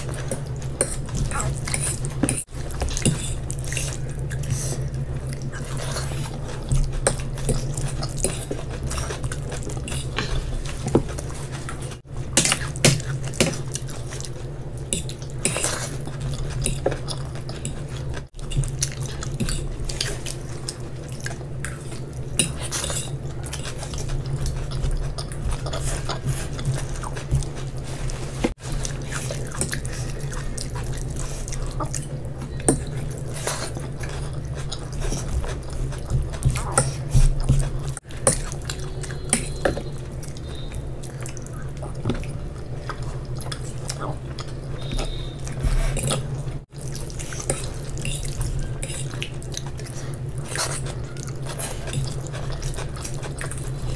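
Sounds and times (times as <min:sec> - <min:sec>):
steady low hum: 0:00.0 - 0:53.9
wet chewing: 0:00.0 - 0:53.9.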